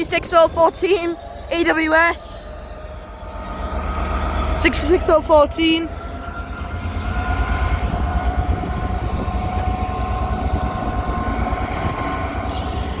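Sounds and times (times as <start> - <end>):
freight train rumbling past: 0.0 - 13.0
high-pitched ringing tones: 0.0 - 13.0.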